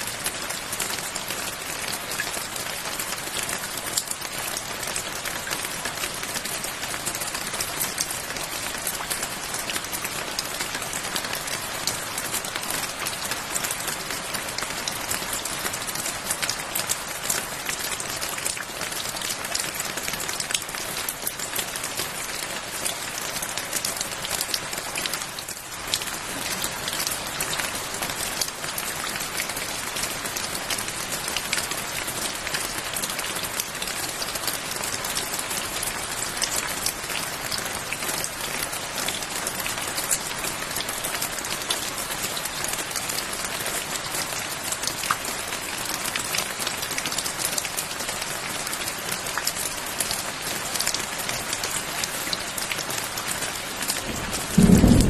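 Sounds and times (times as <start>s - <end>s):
steady rain on a surface: 0.0s - 55.0s.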